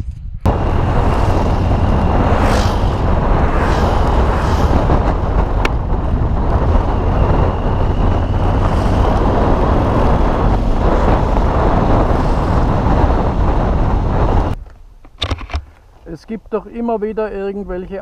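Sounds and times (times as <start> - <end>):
wind rush on microphone: 0.0 - 14.6.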